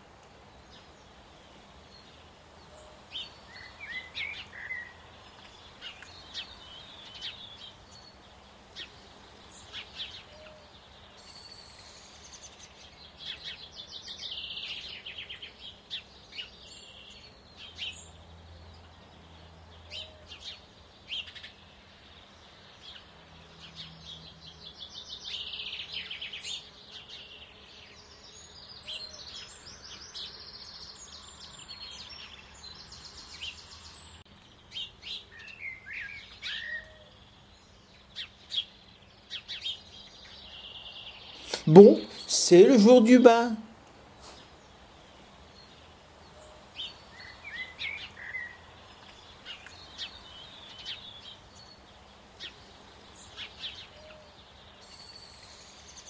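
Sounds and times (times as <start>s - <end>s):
small birds chirping and trilling: 0.0s - 43.3s, 44.0s - 56.0s.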